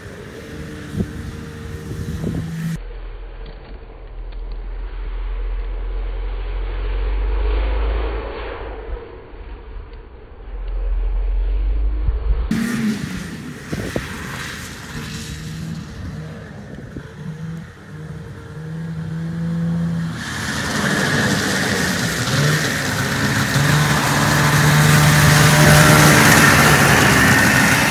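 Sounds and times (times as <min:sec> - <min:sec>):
snowmobile engine revving: 0:00.0 - 0:02.8, 0:04.0 - 0:27.9.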